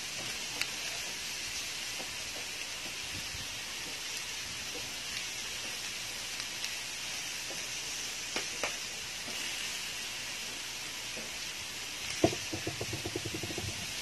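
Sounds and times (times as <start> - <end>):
meat sizzling on grill pan: 0.0 - 14.0.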